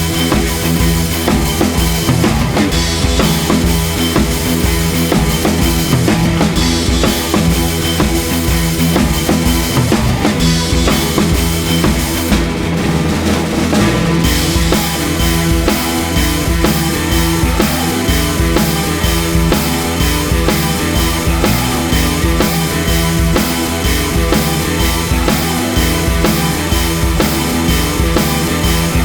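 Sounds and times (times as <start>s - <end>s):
driving drum beat: 0.0s - 29.0s
guitar: 0.0s - 29.0s
rock music: 0.0s - 29.0s.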